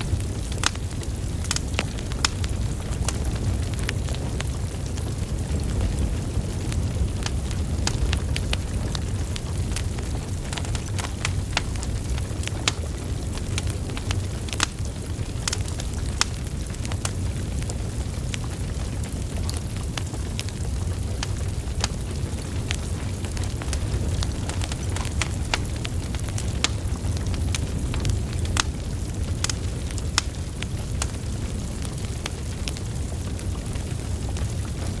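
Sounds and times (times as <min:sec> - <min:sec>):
logs crackling and popping: 0:00.0 - 0:35.0
low rumble of flames: 0:00.0 - 0:35.0.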